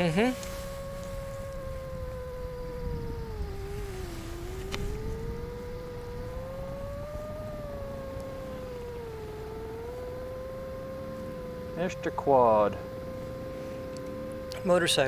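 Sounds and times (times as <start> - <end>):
drone motors whining: 0.0 - 15.0
low wind rumble: 0.0 - 15.0.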